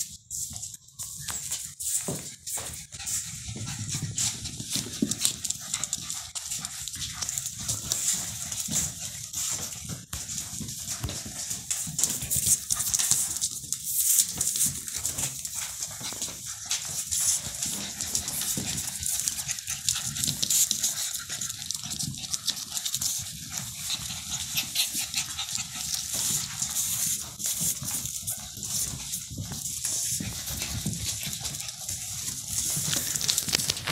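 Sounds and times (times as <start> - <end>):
claws clicking on floor: 0.0 - 33.9
puppies playing and scuffling: 0.0 - 33.9.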